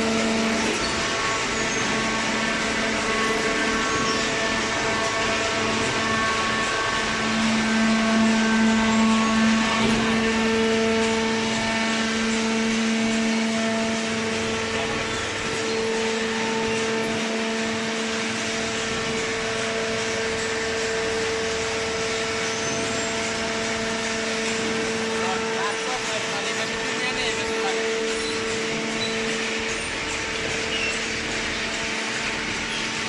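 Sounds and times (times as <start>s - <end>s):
baler machine hum: 0.0s - 33.0s.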